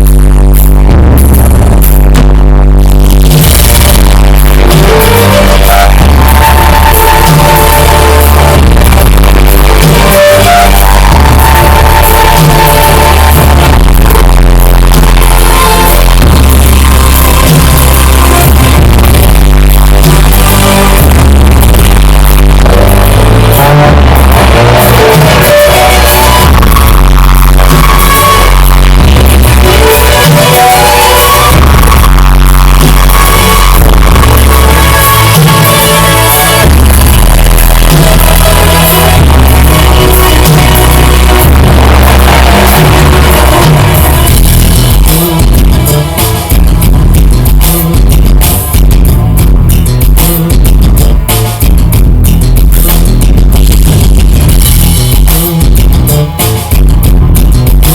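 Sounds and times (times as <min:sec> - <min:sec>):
electronic music over loudspeaker: 0:00.0 - 0:57.9.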